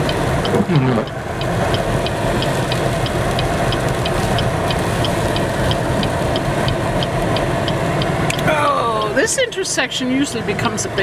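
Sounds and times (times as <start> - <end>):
car engine: 0.0 - 11.0
road noise: 0.0 - 11.0
turn signal ticking: 0.0 - 11.0.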